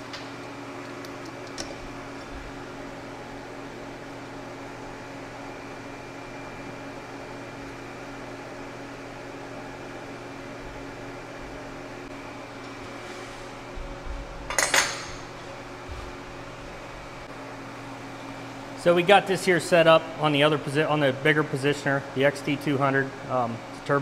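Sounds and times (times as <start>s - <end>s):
cooling fan humming: 0.0s - 24.0s.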